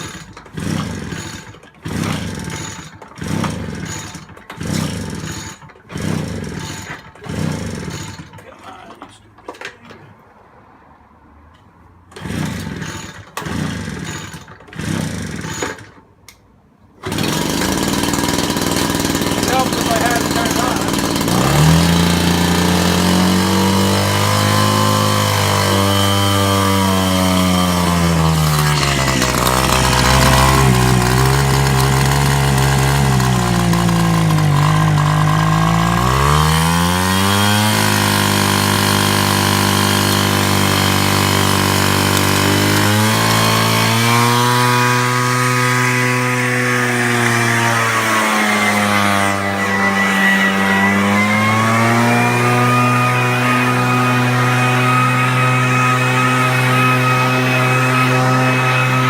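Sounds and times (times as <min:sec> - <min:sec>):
backpack blower engine revving: 0:00.0 - 0:08.4, 0:12.1 - 0:15.8, 0:17.0 - 0:59.0.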